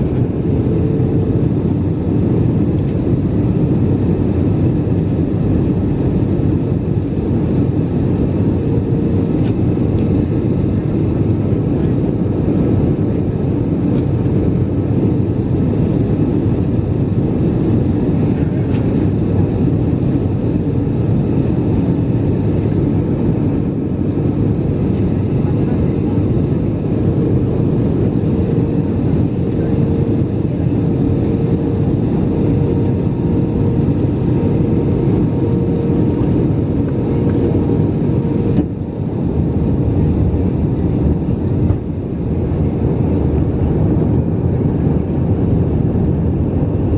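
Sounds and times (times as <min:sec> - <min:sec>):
jet engine and airflow rush: 0:00.0 - 0:46.9.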